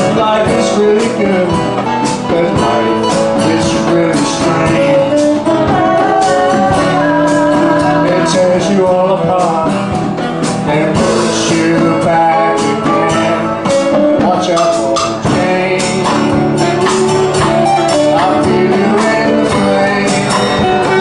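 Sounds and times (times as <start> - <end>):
steady percussion: 0.0 - 21.0
strummed guitar: 0.0 - 21.0.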